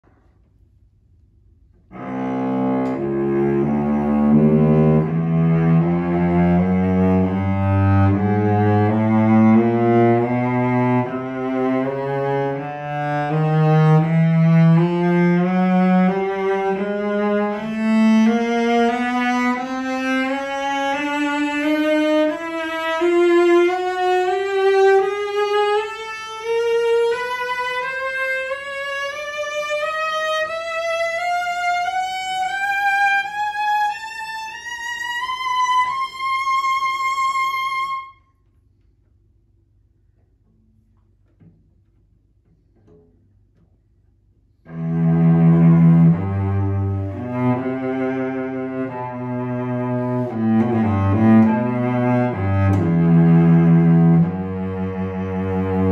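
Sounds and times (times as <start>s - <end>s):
cello bowed in ascending scale: 1.9s - 38.2s, 44.7s - 55.9s.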